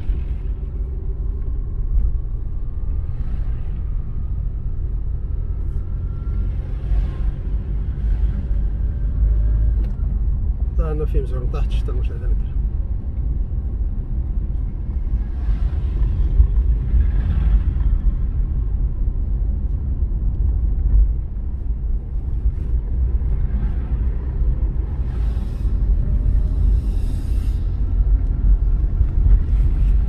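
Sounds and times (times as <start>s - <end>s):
car road rumble on wet streets: 0.0s - 30.0s.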